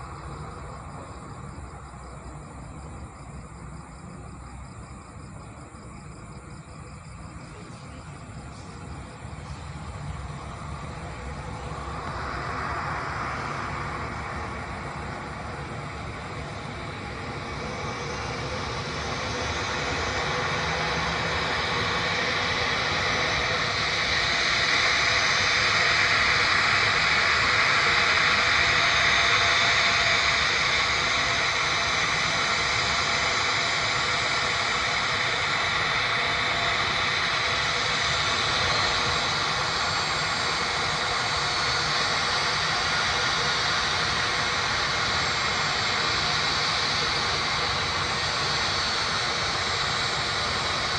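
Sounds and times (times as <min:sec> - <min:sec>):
jet engines running: 0:00.0 - 0:50.9.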